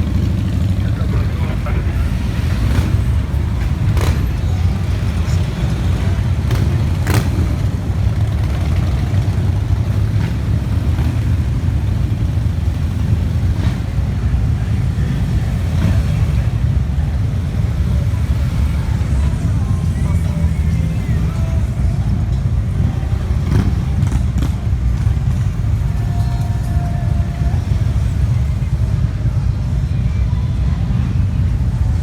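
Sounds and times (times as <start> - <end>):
motorcycle engines droning: 0.0 - 32.0.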